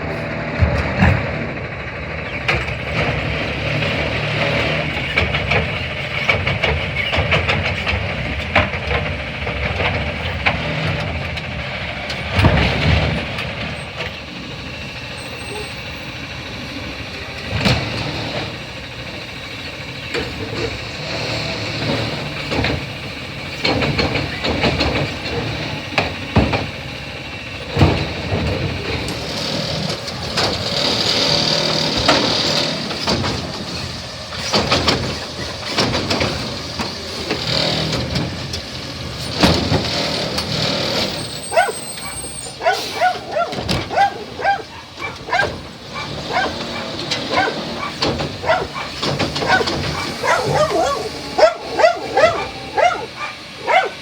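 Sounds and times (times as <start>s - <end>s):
clattering knocks of cart: 0.0s - 54.0s
hydraulic whine: 0.0s - 54.0s
truck engine running: 0.0s - 54.0s.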